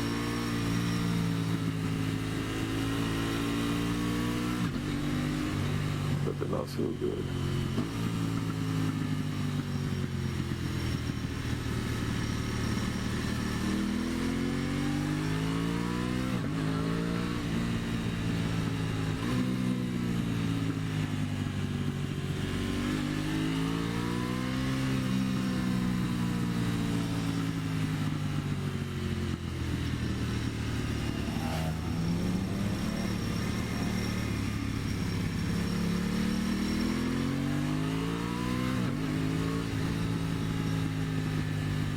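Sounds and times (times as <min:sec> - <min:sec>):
motorcycle engine revving through gears: 0:00.0 - 0:41.9
wind and road noise: 0:00.0 - 0:41.9.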